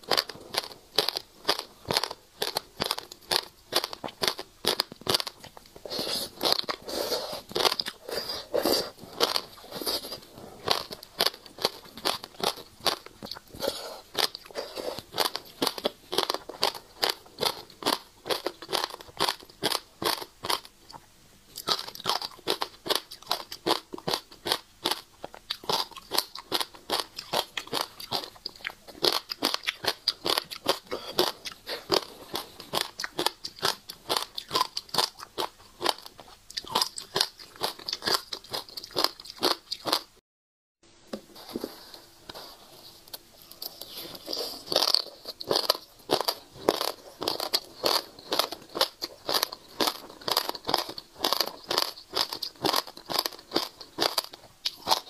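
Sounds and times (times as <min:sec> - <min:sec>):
chewing crunchy seeds: 0:00.0 - 0:40.2, 0:43.1 - 0:55.0.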